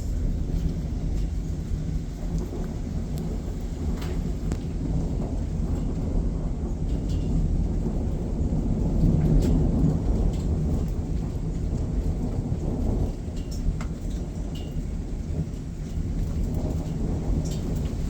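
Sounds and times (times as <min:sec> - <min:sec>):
low rumble of thunder: 0:00.0 - 0:18.0
steady rain: 0:00.0 - 0:18.0.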